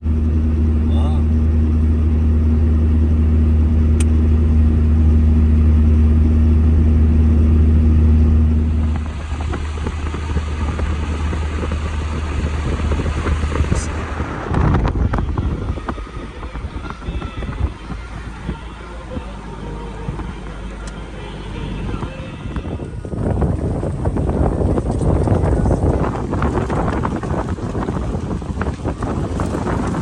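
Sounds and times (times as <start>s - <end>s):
rough noisy rumble: 0.0s - 30.0s
vehicle engine drone: 0.0s - 30.0s.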